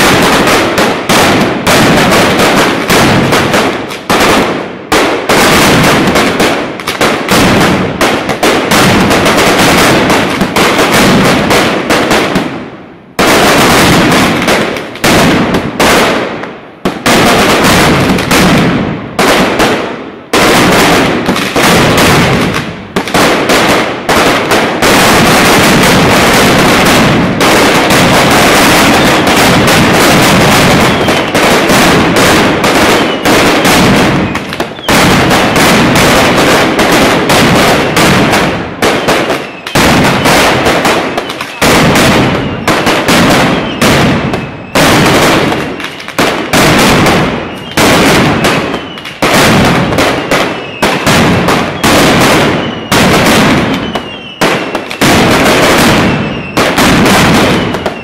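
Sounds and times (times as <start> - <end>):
firecrackers banging: 0.0 - 58.0.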